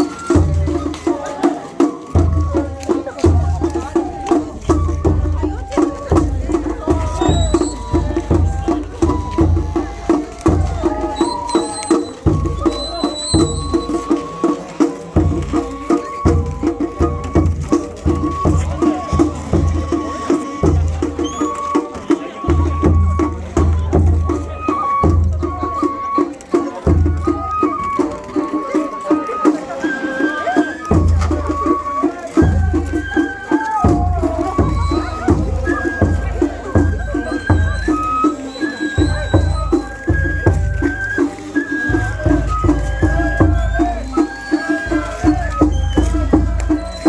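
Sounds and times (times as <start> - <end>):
drums beating quick rhythm: 0.0 - 47.0
high flute melody: 0.0 - 47.0.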